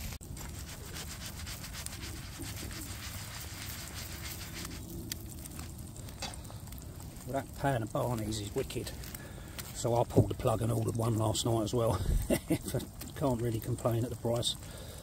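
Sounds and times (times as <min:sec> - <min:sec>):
eggs sizzling in a pan: 0:00.0 - 0:15.0.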